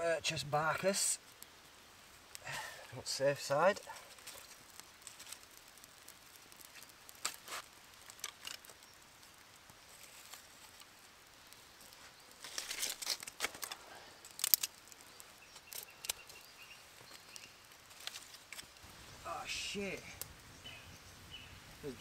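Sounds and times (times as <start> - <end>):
kindling fire crackling: 0.0 - 22.0.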